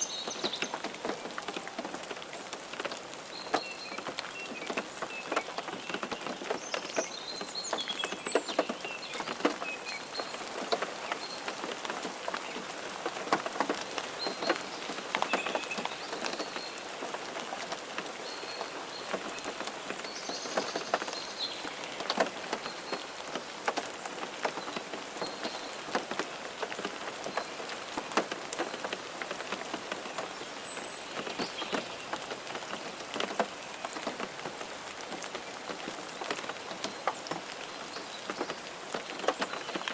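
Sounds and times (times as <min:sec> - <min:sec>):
rain pattering on a car: 0:00.0 - 0:39.9.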